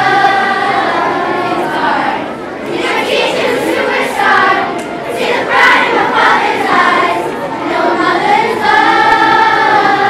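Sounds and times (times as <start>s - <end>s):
children's choir singing a cappella: 0.0s - 10.0s.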